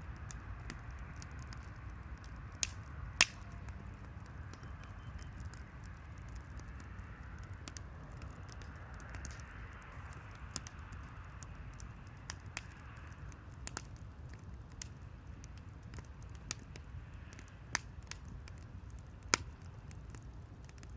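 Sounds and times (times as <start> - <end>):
campfire crackling and popping: 0.0 - 20.9.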